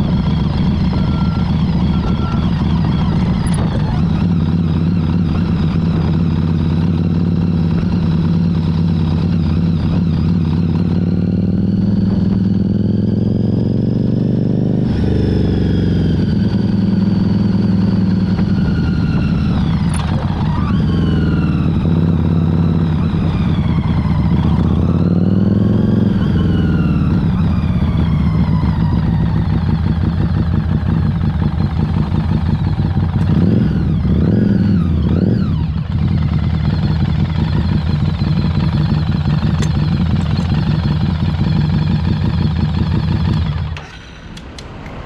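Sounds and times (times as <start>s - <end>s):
motorcycle engine running: 0.0s - 44.4s.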